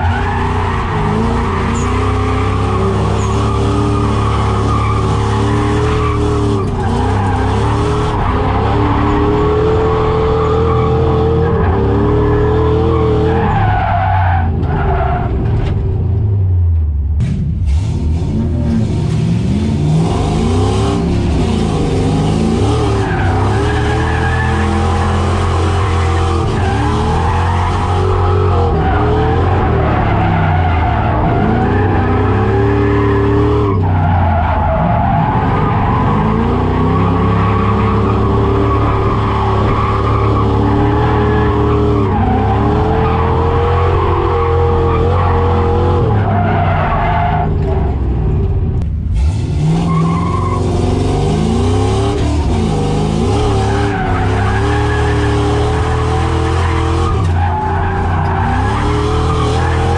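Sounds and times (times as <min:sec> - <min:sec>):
car engine revving high: 0:00.0 - 0:14.1, 0:17.6 - 0:48.0, 0:49.1 - 0:59.9
tyres screeching: 0:00.0 - 0:15.4, 0:21.3 - 0:48.0, 0:49.2 - 0:59.9.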